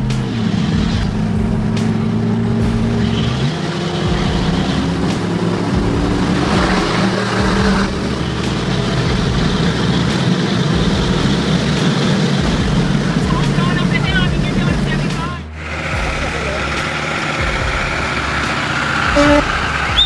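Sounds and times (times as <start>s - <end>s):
road and tyre noise: 0.0s - 20.0s
truck engine running: 0.0s - 20.0s.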